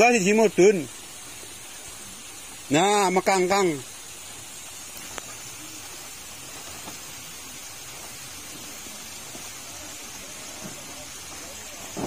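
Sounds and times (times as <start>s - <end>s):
flowing water hiss: 0.0s - 12.0s.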